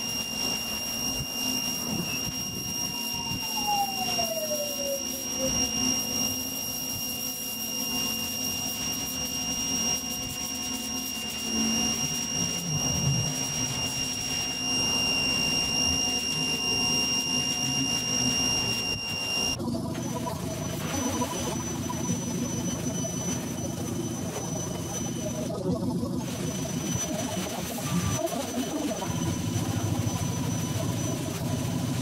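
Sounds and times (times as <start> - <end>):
low hum: 0.0 - 32.0
pressure washer whine: 0.0 - 32.0.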